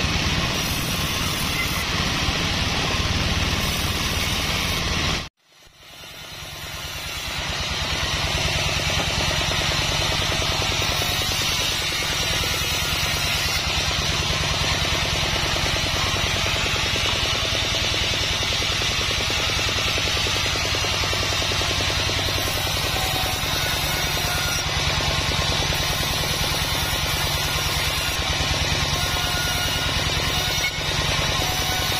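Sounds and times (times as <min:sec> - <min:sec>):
band saw ripping wood: 0:05.9 - 0:31.9.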